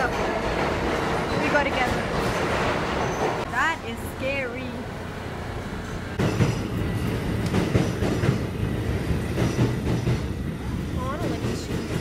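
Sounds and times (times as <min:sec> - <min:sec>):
subway train rumbling on rails: 0:00.0 - 0:12.0.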